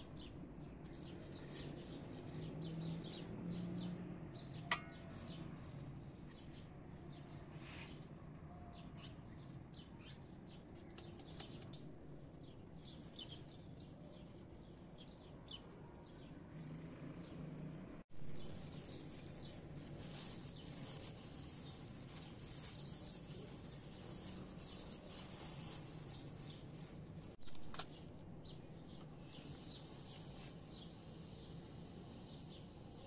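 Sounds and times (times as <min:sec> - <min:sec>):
small birds chirping: 0:00.0 - 0:17.5, 0:18.2 - 0:33.0.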